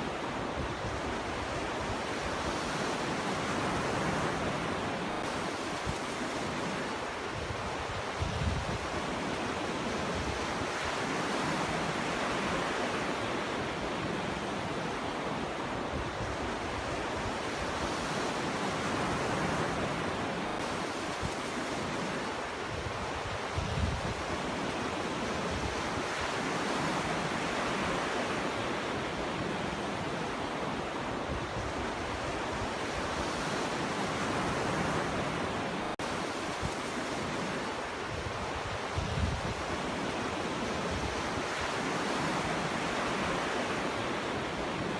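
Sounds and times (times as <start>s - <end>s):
ocean waves washing up beach: 0.0s - 44.9s.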